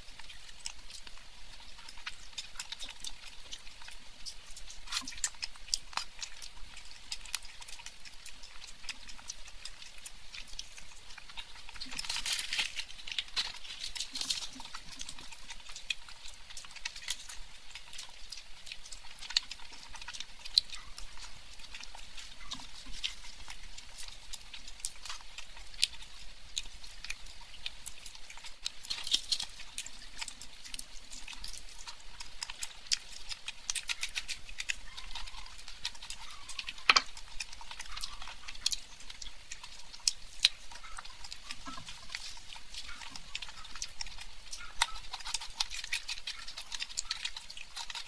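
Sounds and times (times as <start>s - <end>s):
chewing and lip-smacking: 0.0s - 48.0s.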